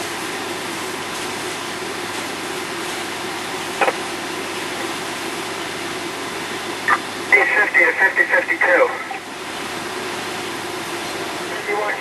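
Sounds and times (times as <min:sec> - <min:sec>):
fire apparatus rushing noise: 0:00.0 - 0:12.0.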